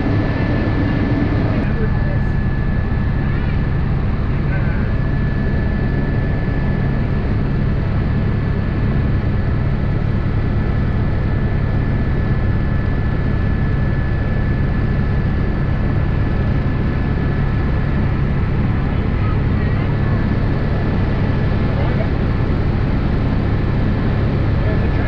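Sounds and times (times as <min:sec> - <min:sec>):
helicopter drone: 0:00.0 - 0:25.0.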